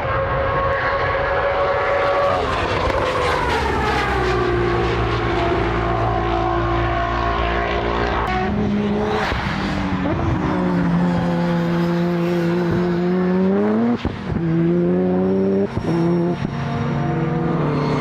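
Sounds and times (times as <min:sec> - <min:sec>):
race car accelerating: 0:00.0 - 0:18.0.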